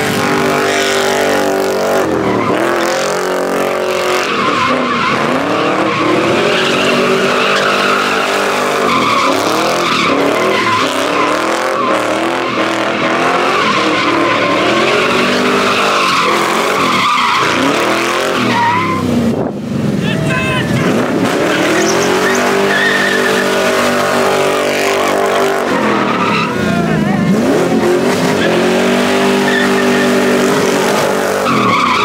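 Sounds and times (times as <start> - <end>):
car engine revving: 0.0 - 32.0
tires squealing on asphalt: 0.0 - 32.0.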